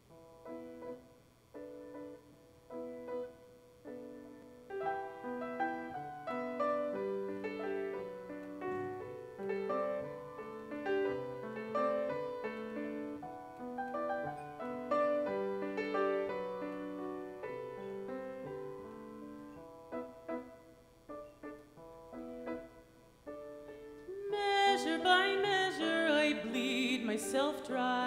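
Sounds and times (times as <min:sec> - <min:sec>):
solo grand piano: 0:00.0 - 0:28.0.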